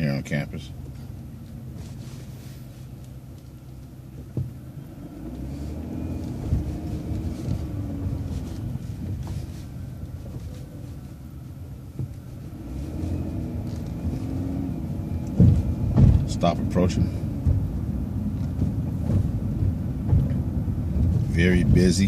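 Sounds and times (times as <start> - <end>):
bus engine running: 0.0 - 22.0
low road rumble: 0.0 - 22.0.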